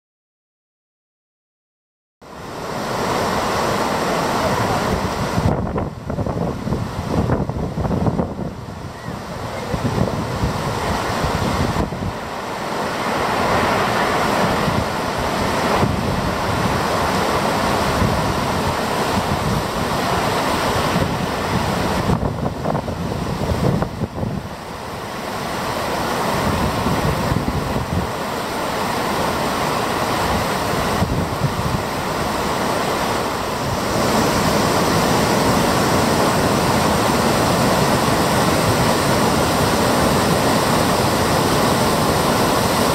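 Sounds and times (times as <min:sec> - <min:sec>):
whitewater rushing over rocks: 0:02.3 - 0:42.9
wind on microphone: 0:02.6 - 0:42.9.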